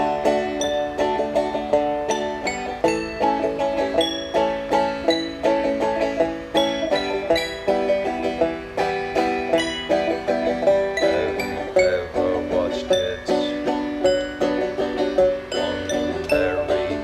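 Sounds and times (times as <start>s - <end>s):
banjo picking: 0.0s - 17.0s.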